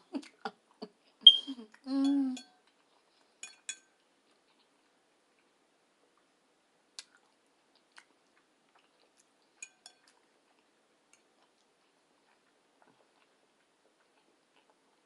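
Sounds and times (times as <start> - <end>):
faint chewing: 2.6 - 15.0.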